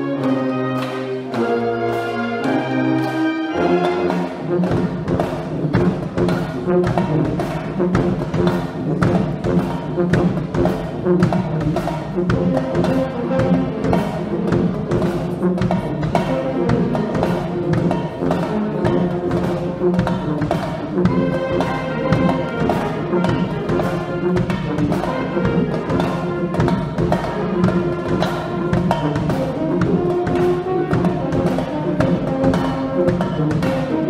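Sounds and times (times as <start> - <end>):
brass band playing: 0.0 - 34.0
steady drum beat: 0.0 - 34.0.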